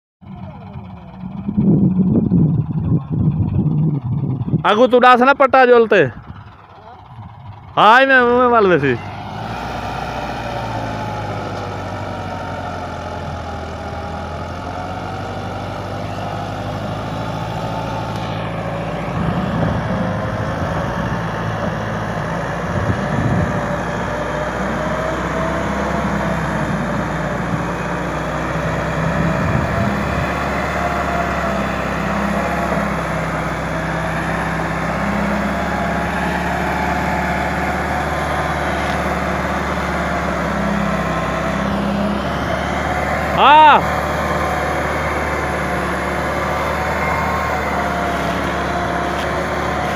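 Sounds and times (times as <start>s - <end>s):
tractor diesel engine under load: 0.2s - 49.9s.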